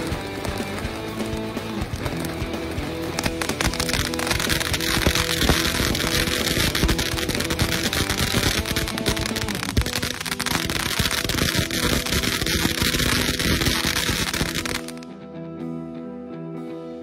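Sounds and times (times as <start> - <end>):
firework fountain hissing and crackling: 0.0 - 15.0
background music: 0.0 - 17.0.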